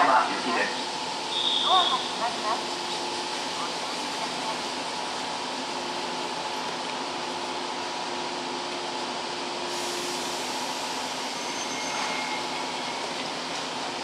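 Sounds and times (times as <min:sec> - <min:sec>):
train machinery humming: 0:00.0 - 0:14.0.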